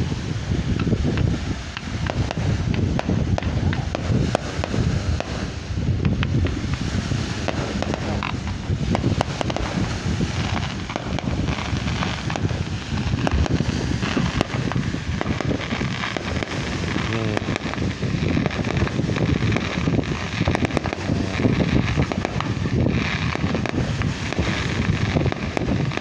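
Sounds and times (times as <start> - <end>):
distant fireworks bursting: 0.0 - 26.0
wind buffeting microphone: 0.0 - 26.0.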